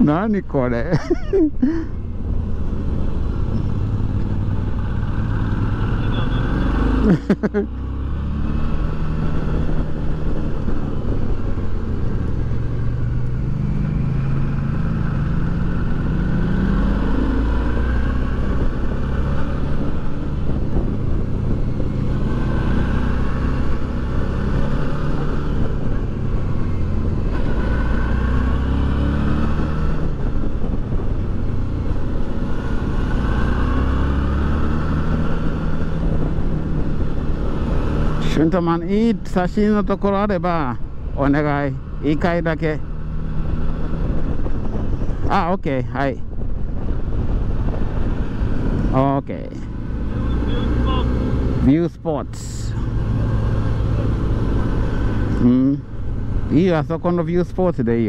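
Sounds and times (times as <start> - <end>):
motorcycle engine accelerating: 1.4 - 45.3, 46.4 - 58.0.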